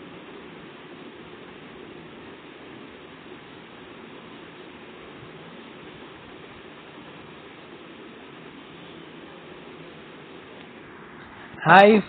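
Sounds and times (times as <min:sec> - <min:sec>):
faint room tone hiss: 0:00.0 - 0:12.0.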